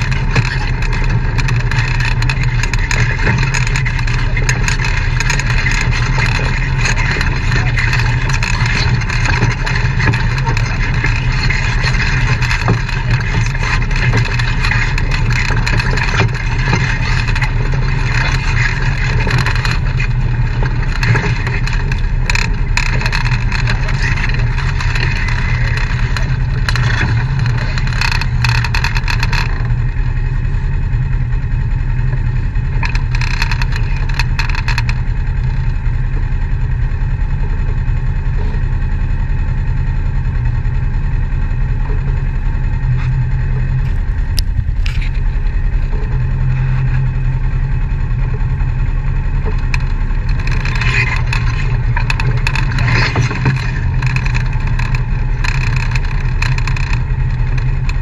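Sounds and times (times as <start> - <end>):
rattling and clattering: 0.0 - 30.2, 32.0 - 36.7, 40.3 - 58.0
utility vehicle engine running: 0.0 - 58.0.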